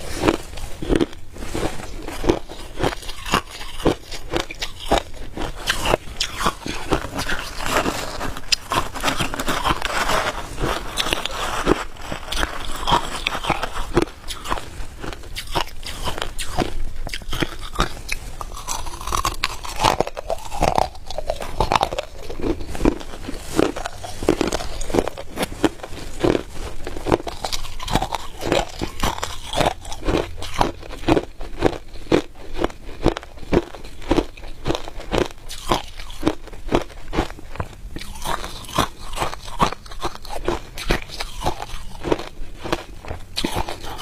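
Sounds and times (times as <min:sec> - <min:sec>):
ice crunching while chewed: 0:00.0 - 0:44.0.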